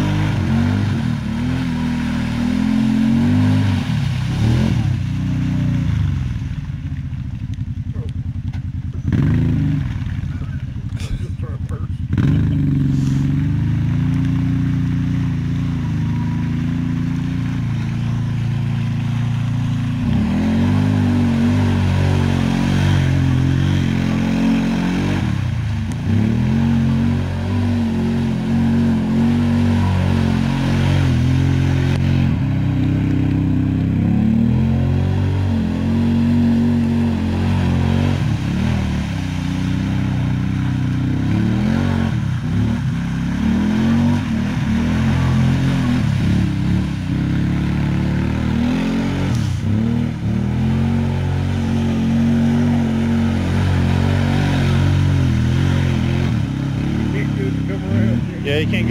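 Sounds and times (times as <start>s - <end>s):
off-road vehicle engine revving: 0.0s - 58.9s
tyres and mud spray: 0.0s - 58.9s.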